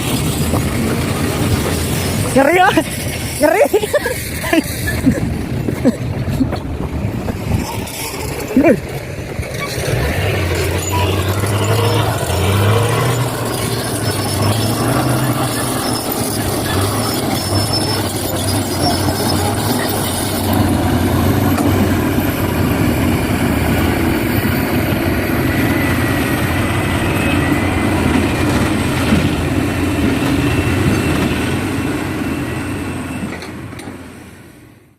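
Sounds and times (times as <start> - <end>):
heavy diesel machinery engine drone: 0.0 - 34.9.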